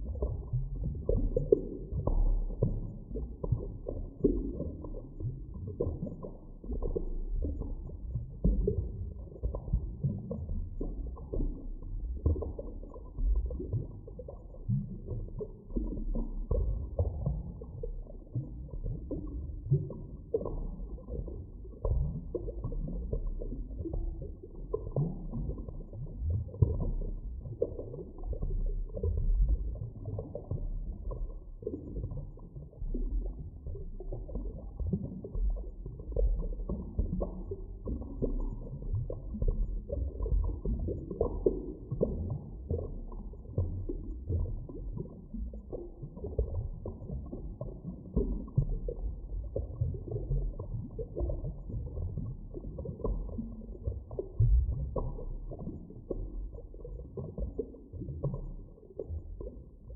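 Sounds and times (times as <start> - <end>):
deep underwater rumble: 0.0 - 59.9
low underwater gurgles: 0.0 - 59.9.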